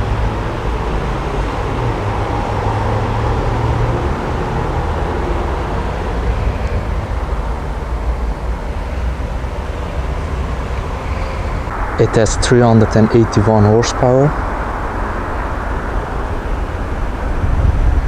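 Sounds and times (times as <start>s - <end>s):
car engine exhaust rumble: 0.0s - 18.0s.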